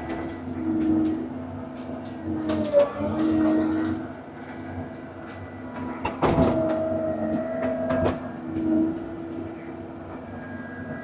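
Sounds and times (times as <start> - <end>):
excavator engine and hydraulics whining: 0.0 - 11.0.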